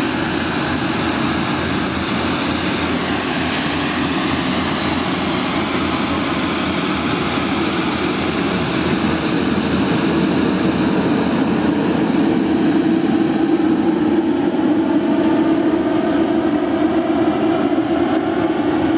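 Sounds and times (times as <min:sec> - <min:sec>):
sweeper truck engine drone: 0:00.0 - 0:18.9.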